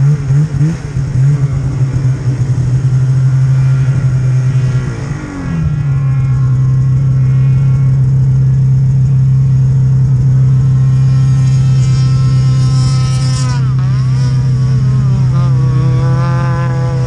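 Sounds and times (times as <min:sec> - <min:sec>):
snowmobile engine at high revs: 0:00.0 - 0:17.0.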